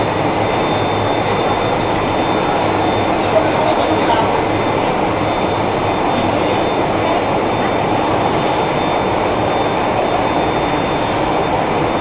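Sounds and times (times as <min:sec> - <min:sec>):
faint high machine whine: 0:00.0 - 0:12.0
loud machine noise: 0:00.0 - 0:12.0.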